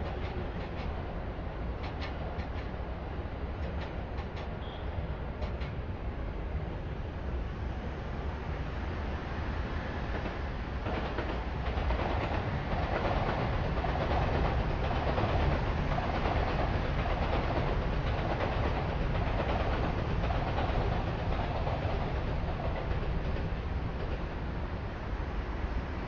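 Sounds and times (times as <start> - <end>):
train rumbling clatter on rails: 0.0 - 26.0.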